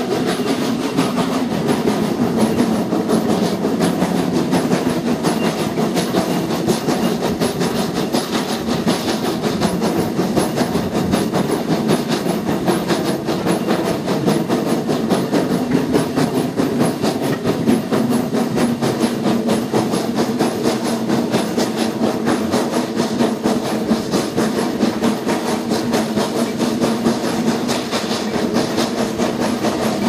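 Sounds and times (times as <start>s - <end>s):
carriage wheels rumbling on rails: 0.0s - 30.0s
steam locomotive exhaust chuffs: 0.0s - 30.0s.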